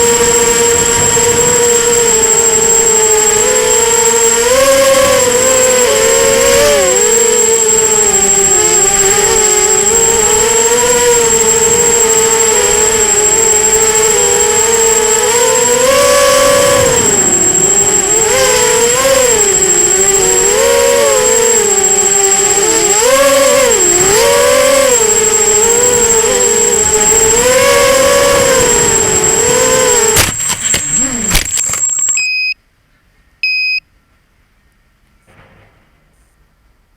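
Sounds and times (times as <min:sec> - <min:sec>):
drone propellers whining: 0:00.0 - 0:32.3
high-pitched electronic whine: 0:00.0 - 0:32.6.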